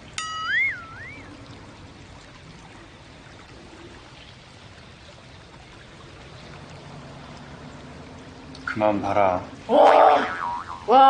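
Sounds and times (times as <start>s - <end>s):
running water trickling: 0.0s - 11.0s.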